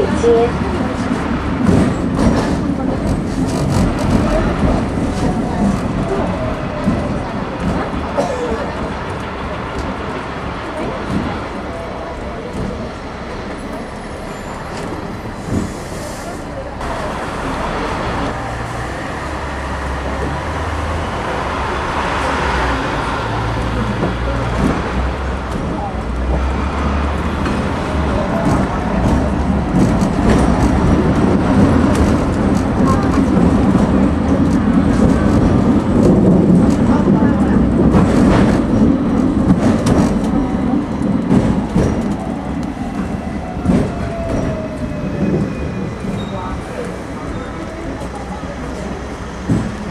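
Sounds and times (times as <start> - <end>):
wheel clacks on rail: 0.0 - 15.9, 23.5 - 49.9
bus and car traffic: 0.0 - 49.9
tram motor hum: 0.0 - 49.9.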